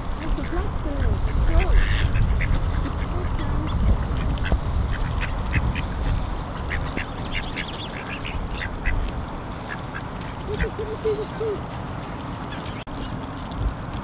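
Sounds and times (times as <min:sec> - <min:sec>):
ducks quacking: 0:00.0 - 0:12.9.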